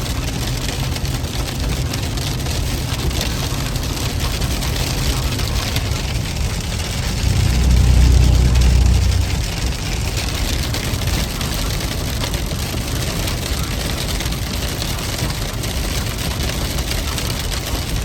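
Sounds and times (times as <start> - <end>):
road and engine noise in car cabin: 0.0 - 18.0.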